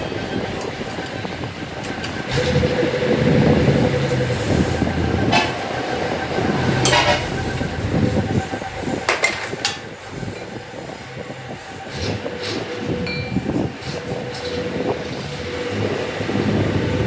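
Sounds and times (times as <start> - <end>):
heavy machinery rumbling: 0.0 - 17.0.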